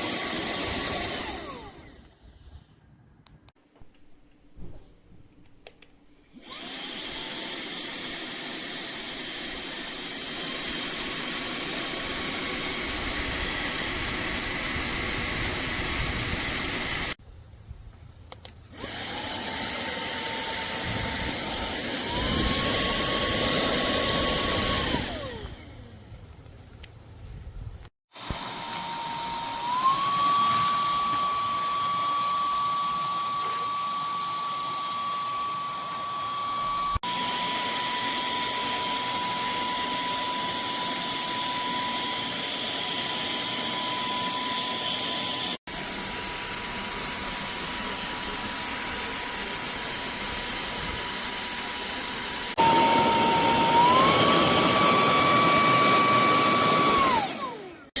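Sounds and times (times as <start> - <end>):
handheld vacuum cleaner whine: 0.0 - 2.2, 6.2 - 17.2, 18.7 - 25.9, 28.1 - 58.0.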